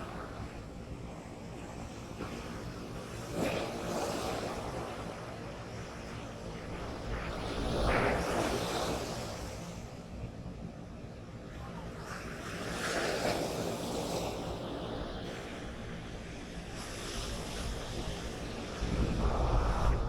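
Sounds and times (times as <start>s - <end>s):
wind rumble on microphone: 0.0s - 20.0s
surf breaking on a beach: 1.5s - 10.0s, 11.5s - 20.0s.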